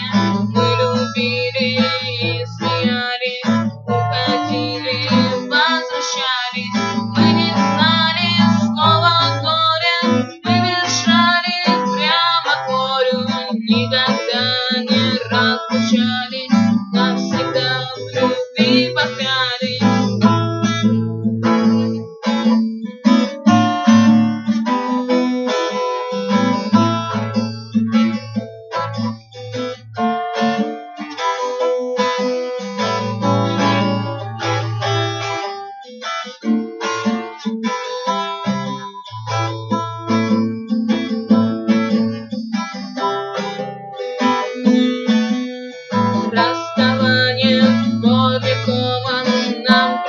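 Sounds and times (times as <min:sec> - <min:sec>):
guitar plucked and strummed: 0:00.0 - 0:50.0.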